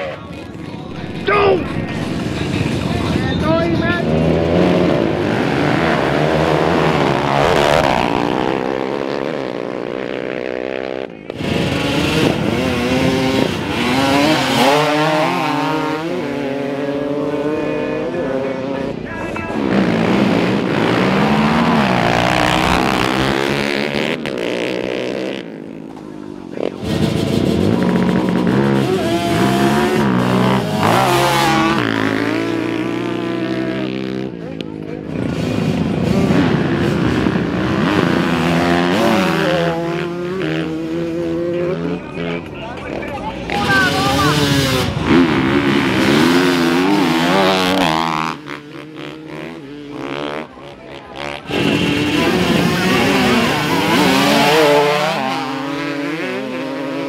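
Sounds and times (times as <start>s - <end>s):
dirt bike engines racing: 0.0s - 57.0s
quad engines revving: 0.0s - 57.0s.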